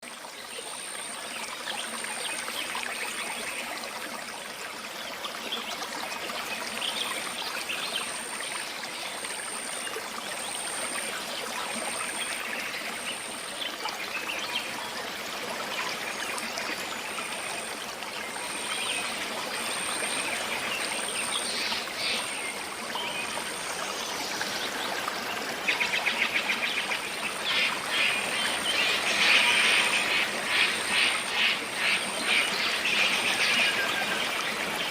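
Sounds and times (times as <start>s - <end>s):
stream trickling over stones: 0.0s - 34.9s.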